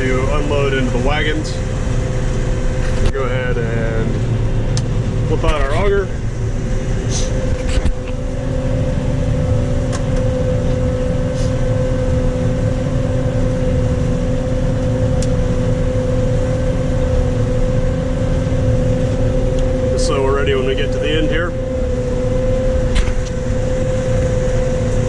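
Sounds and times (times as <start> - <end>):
combine harvester diesel drone: 0.0 - 25.0
steady machine whine: 0.0 - 25.0.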